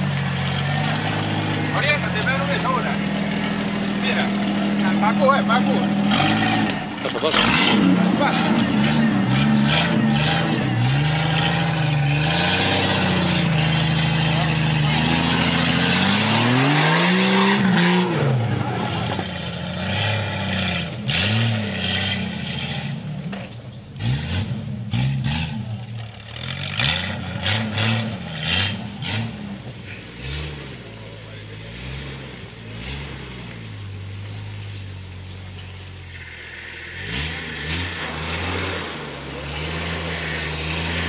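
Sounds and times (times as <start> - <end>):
off-road vehicle engines revving: 0.0 - 41.0.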